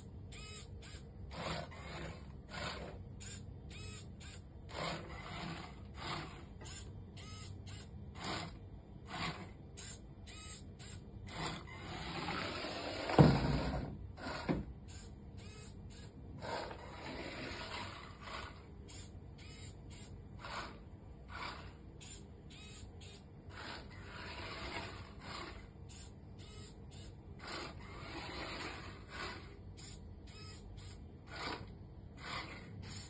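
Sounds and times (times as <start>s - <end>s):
small gear motors whirring: 0.0s - 13.4s, 14.2s - 33.0s.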